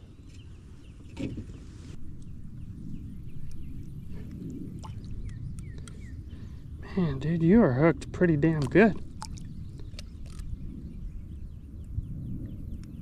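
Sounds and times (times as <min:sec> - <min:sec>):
birds chirping: 0:00.0 - 0:13.0
low rumble: 0:01.9 - 0:13.0.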